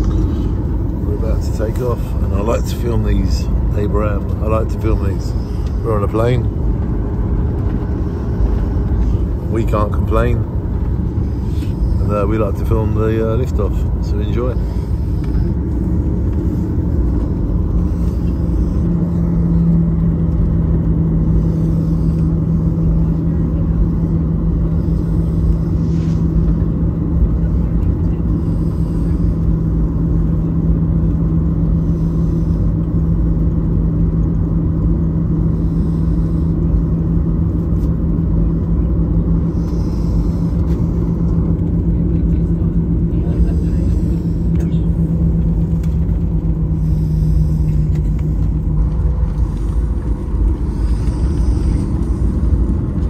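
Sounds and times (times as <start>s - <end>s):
jet engines low rumble: 0.0s - 53.0s
steady hum: 0.0s - 53.0s.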